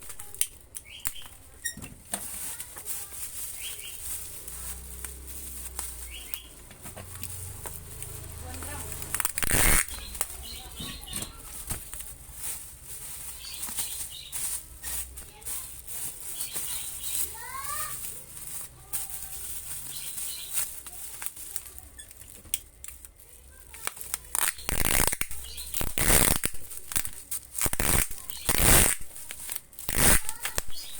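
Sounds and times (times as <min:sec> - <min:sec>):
plastic packing material crinkling: 0:00.0 - 0:30.9.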